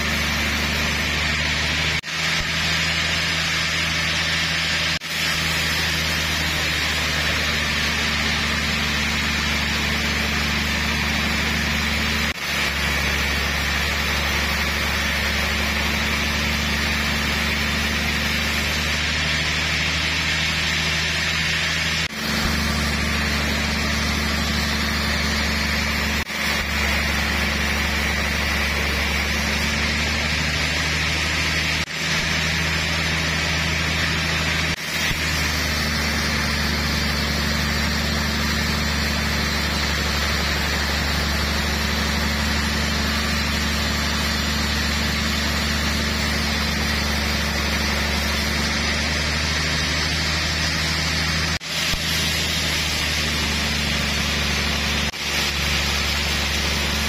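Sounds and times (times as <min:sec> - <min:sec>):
band sawmill drone: 0:00.0 - 0:57.0
blade hissing through wood: 0:00.0 - 0:57.0.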